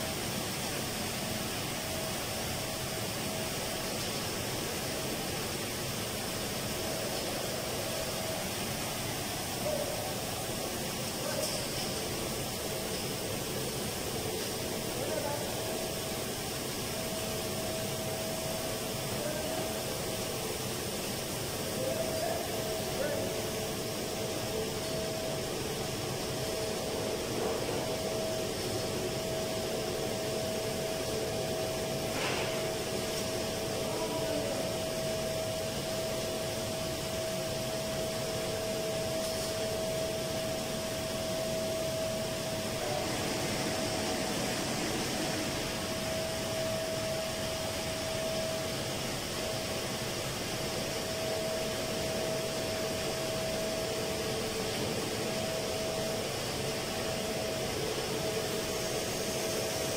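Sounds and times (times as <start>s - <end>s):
machinery rush and whine: 0.0s - 59.9s.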